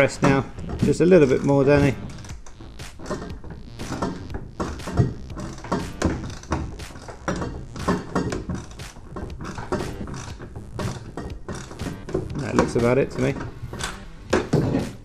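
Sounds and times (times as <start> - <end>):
ratchet clicking: 0.5 - 14.6.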